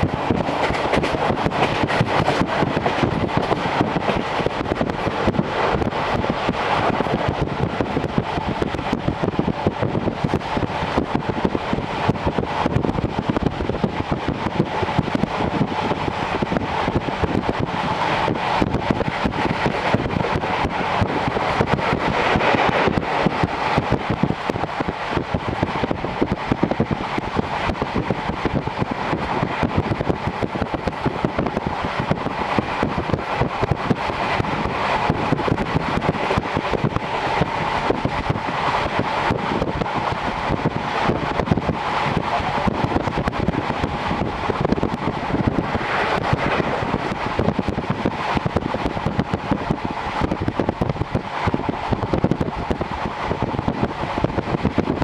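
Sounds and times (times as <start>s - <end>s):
train wheels rumbling on rail: 0.0s - 55.0s
wind noise: 0.0s - 55.0s.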